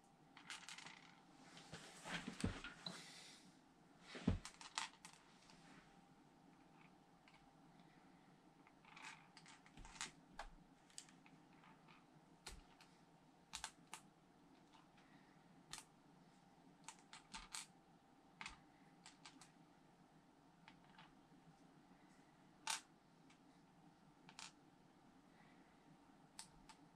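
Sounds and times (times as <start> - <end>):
faint room hiss: 0.0 - 26.9.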